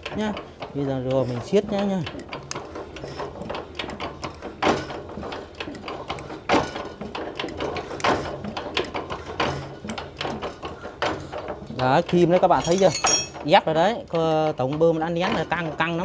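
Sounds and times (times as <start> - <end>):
metallic knocks: 0.0 - 13.9.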